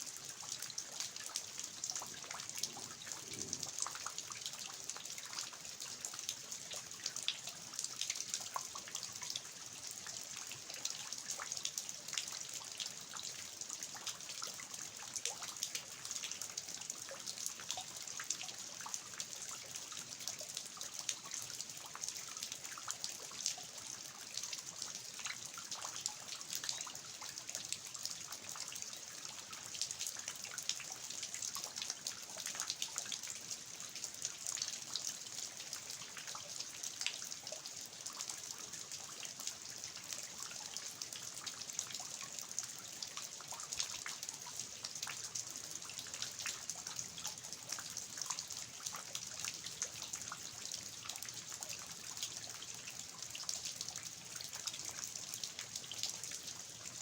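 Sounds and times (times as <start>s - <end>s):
runoff dripping and trickling: 0.0s - 57.0s
steady rain falling: 0.0s - 57.0s.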